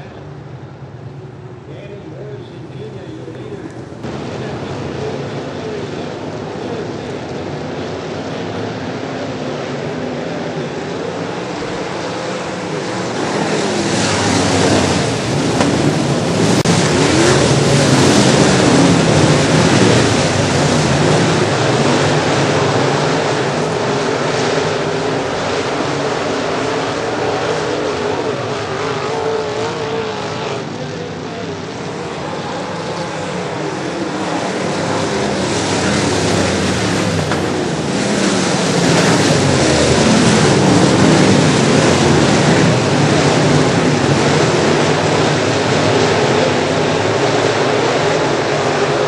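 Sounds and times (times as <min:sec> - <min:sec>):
race car engines running hard: 0:00.0 - 0:49.0.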